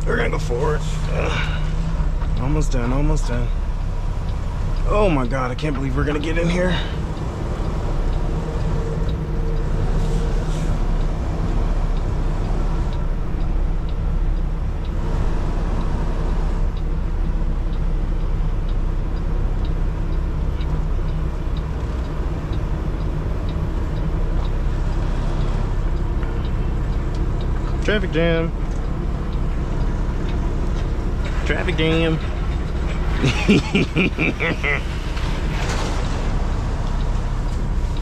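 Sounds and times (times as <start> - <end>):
diesel truck engine running: 0.0 - 38.0
faint regular ticking: 0.0 - 38.0.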